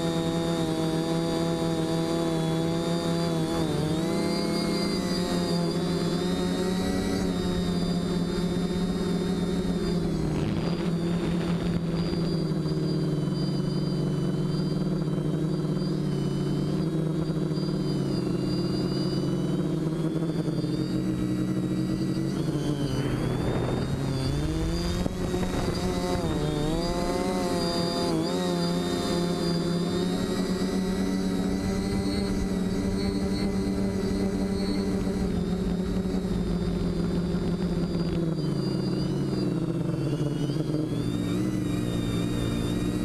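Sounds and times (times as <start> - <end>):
quadcopter motors buzzing: 0.0 - 43.0.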